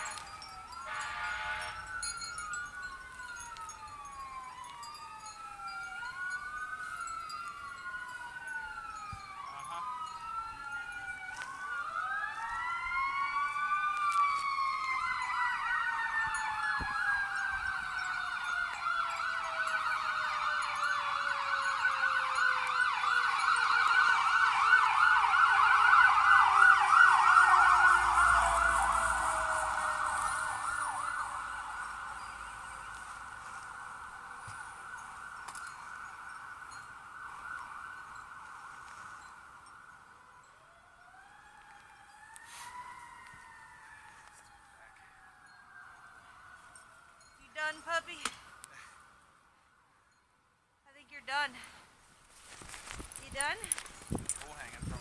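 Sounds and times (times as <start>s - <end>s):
siren yelp: 0.0s - 49.3s
emergency vehicle sirens wailing: 0.0s - 49.7s.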